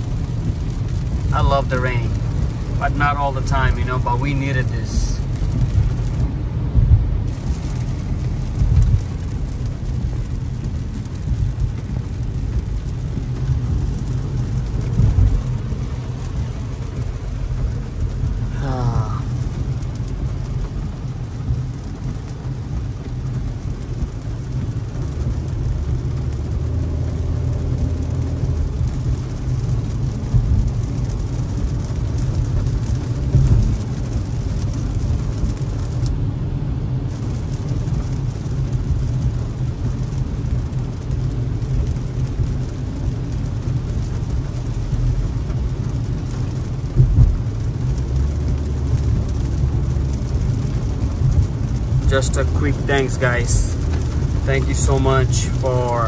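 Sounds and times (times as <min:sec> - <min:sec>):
rain and spray hiss: 0:00.0 - 0:56.0
tyres rumbling on wet road: 0:00.0 - 0:56.0.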